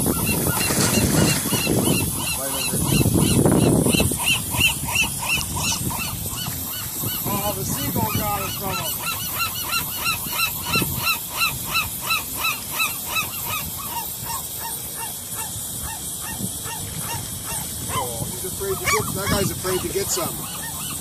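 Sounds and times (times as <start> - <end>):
gull yelping calls: 0.0 - 21.0.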